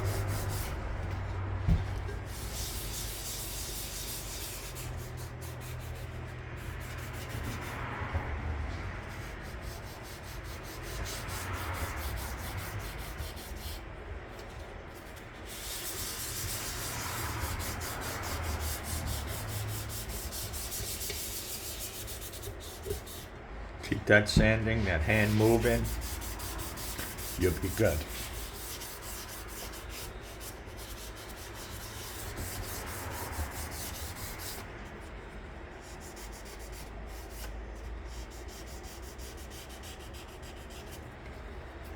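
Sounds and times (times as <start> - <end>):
sandpaper rubbing on metal: 0.0 - 1.2, 2.2 - 8.0, 9.0 - 13.8, 15.0 - 23.3, 24.9 - 34.7, 35.8 - 41.1.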